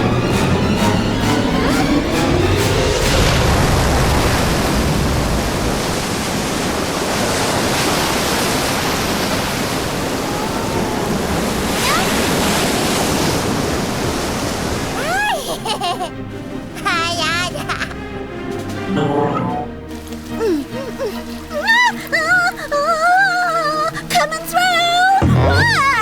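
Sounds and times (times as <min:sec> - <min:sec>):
pouring water rushing: 0:02.1 - 0:19.0, 0:19.6 - 0:26.0.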